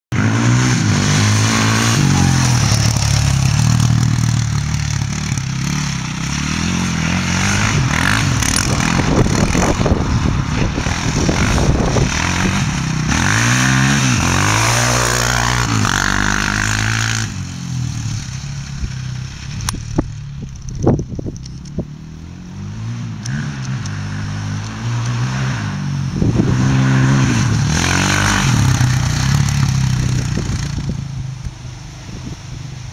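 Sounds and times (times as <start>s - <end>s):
quad engine revving: 0.1s - 31.4s.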